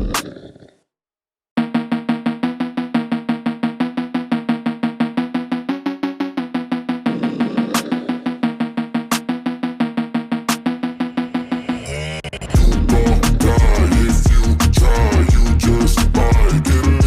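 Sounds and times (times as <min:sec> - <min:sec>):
fast repeated pitched notes: 0:01.6 - 0:17.0.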